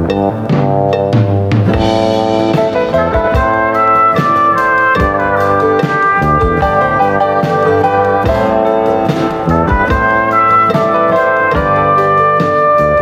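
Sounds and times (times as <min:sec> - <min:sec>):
instrumental dance-band music: 0:00.0 - 0:13.0.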